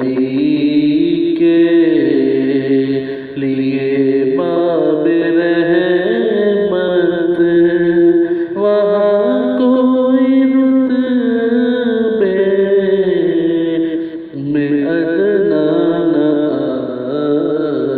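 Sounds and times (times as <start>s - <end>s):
man singing long held notes: 0.0s - 17.9s.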